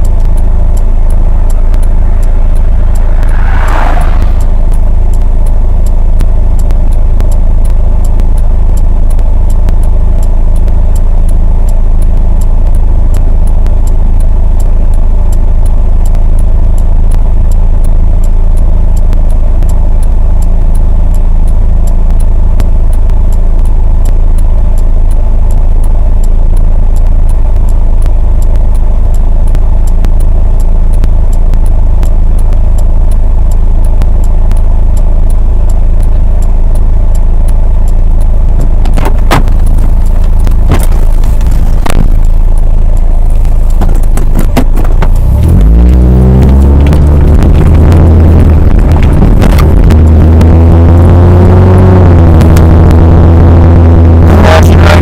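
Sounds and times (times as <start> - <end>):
engine and road rumble: 0.0 - 55.0
rapid ticking rattle: 0.0 - 55.0.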